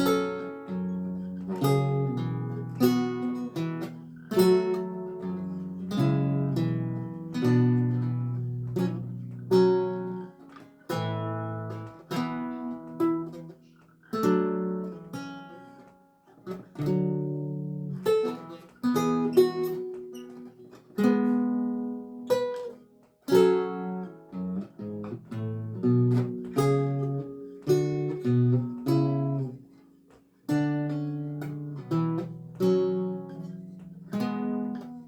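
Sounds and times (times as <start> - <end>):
solo lute music: 0.0 - 35.0.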